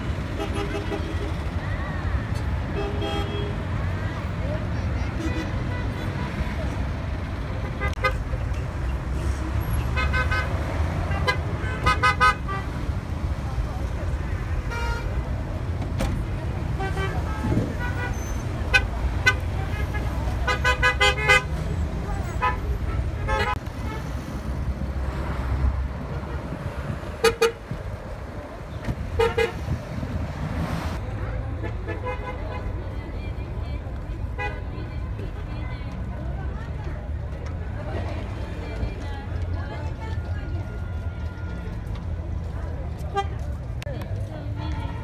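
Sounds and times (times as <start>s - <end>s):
low engine rumble of traffic: 0.0s - 45.0s.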